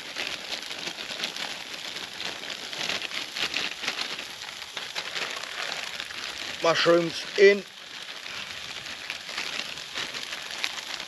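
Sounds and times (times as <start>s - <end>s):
meatballs sizzling in a pan: 0.0s - 11.0s.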